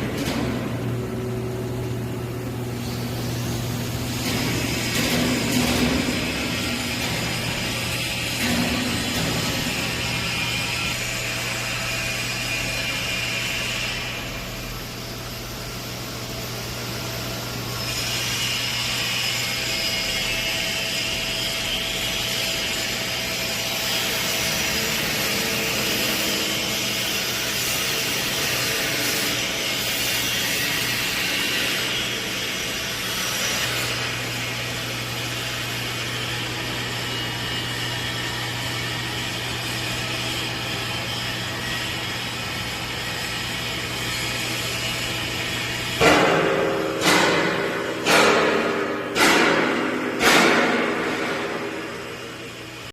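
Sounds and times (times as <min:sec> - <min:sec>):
constant low hum: 0:00.0 - 0:52.9
hissing welding arc: 0:02.5 - 0:49.6.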